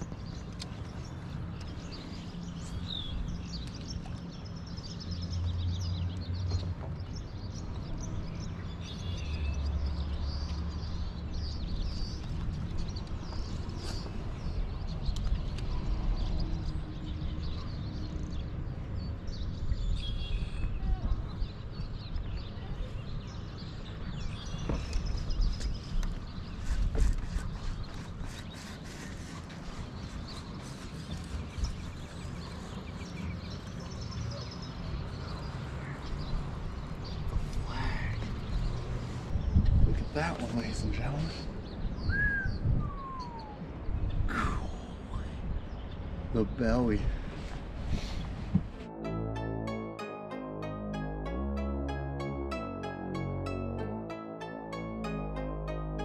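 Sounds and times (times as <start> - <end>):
small birds chirping: 0.0 - 48.4.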